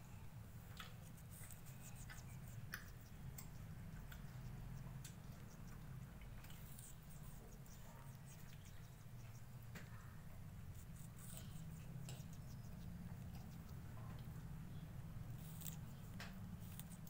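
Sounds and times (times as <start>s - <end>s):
low steady hum: 0.0s - 17.0s
beak nibbling fruit: 0.6s - 17.0s.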